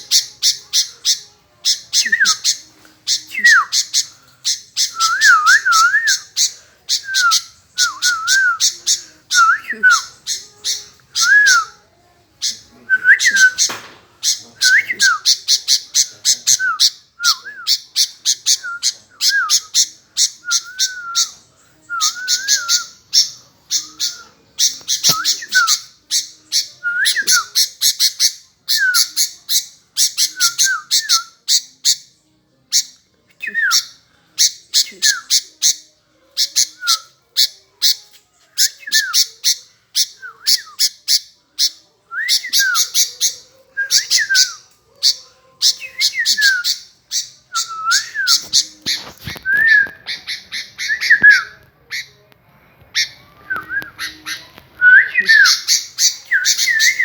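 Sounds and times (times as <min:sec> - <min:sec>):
bird singing chattering and whistling: 0:00.0 - 0:11.8, 0:12.4 - 0:32.1, 0:32.7 - 0:52.1, 0:53.0 - 0:57.0.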